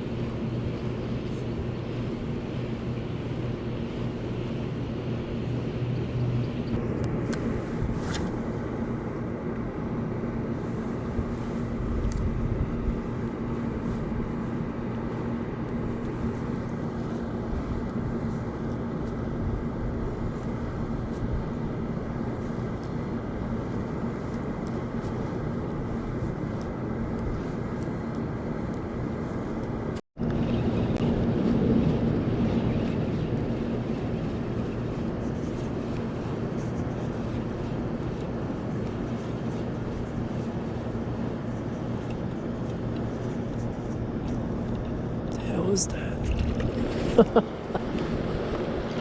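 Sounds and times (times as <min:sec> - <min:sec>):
steady motor drone: 0:00.0 - 0:49.0.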